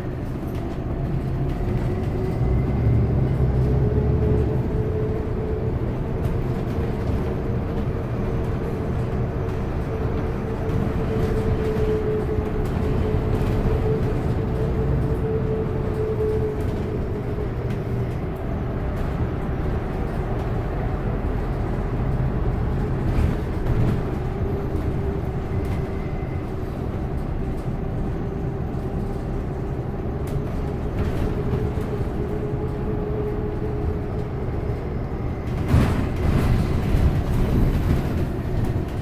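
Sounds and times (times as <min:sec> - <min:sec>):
bus engine and road rumble: 0:00.0 - 0:39.0
constant whine: 0:00.0 - 0:39.0.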